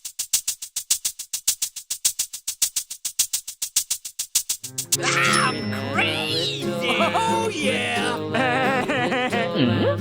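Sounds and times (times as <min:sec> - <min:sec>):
fast bright percussion beat: 0:00.0 - 0:08.3.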